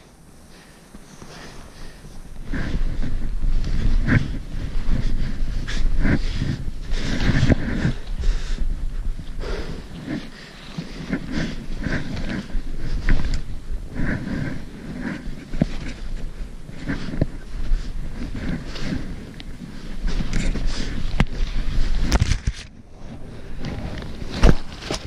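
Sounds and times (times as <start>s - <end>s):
person breathing hard: 0.0s - 22.1s
trekking poles planting: 0.0s - 25.0s.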